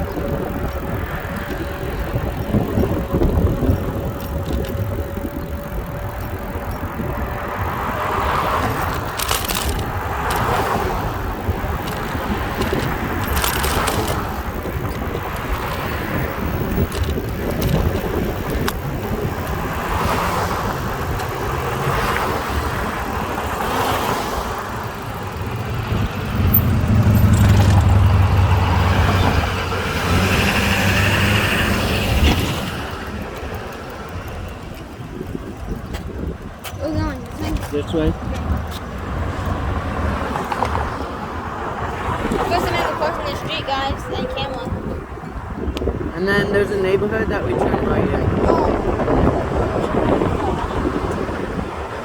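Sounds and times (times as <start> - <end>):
vehicle engine humming: 0.0 - 52.0
wind rumbling on microphone: 0.0 - 52.0.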